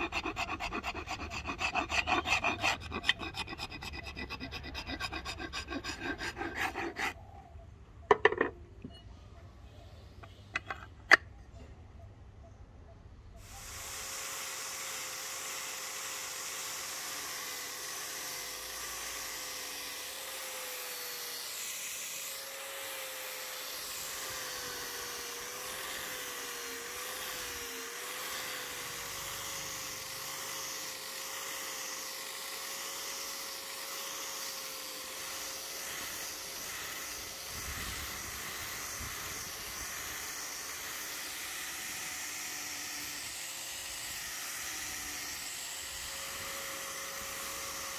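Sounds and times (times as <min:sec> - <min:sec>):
orbital sander running: 0:00.0 - 0:07.2, 0:13.6 - 0:47.9.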